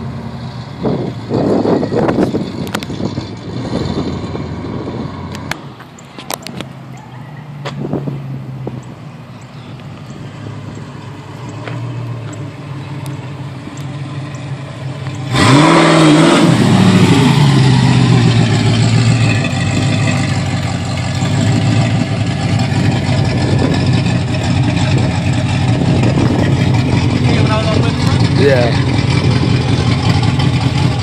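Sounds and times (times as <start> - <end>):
car engine idling with a rev: 0.0 - 31.0.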